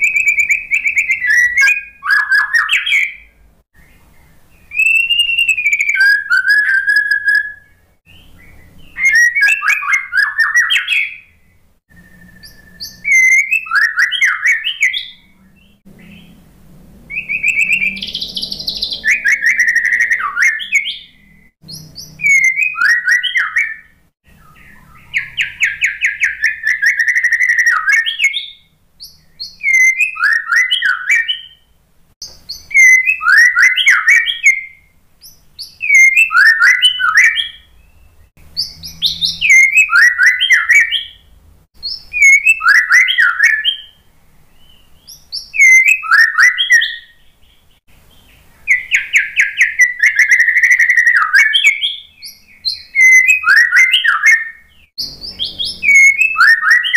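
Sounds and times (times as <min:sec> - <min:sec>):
bird singing whistles and trills: 0:00.0 - 0:16.4, 0:17.1 - 0:56.9.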